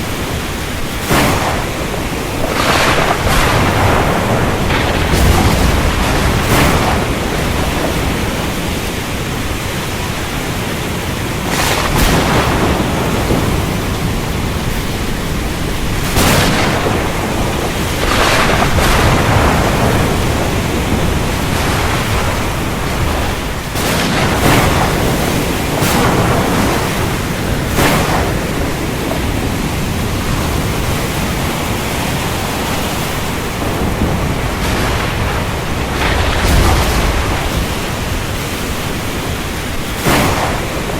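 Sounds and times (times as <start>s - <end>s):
heavy rain falling: 0.0s - 40.9s
thunder cracking and rumbling: 0.0s - 40.9s.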